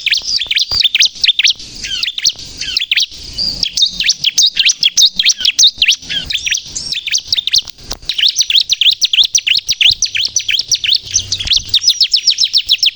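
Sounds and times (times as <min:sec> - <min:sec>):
bird singing sharp chirps: 0:00.0 - 0:12.9.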